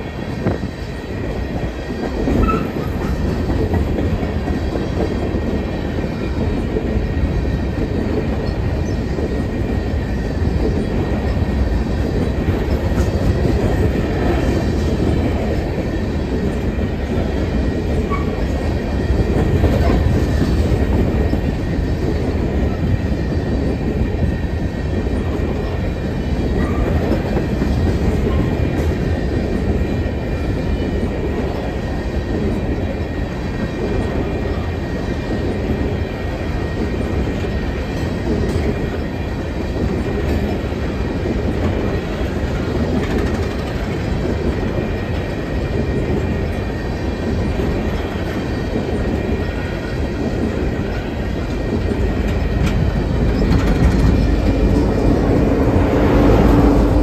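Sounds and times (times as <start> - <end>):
freight train rumbling: 0.0 - 57.0
train car clanks: 0.3 - 23.7, 32.3 - 57.0.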